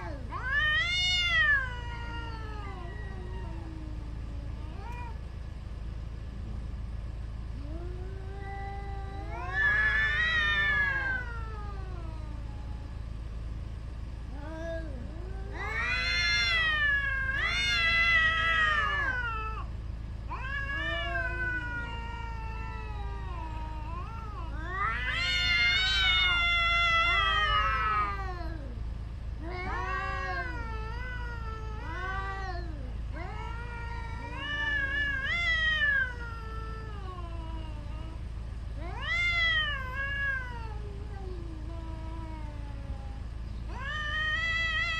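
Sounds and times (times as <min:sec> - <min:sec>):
cats yowling: 0:00.0 - 0:13.4, 0:14.0 - 0:44.9.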